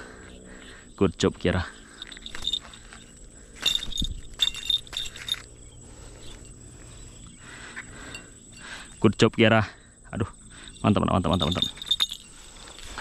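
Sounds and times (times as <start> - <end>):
faint high insect whine: 0.0 - 13.0
small metallic jingles: 0.0 - 13.0.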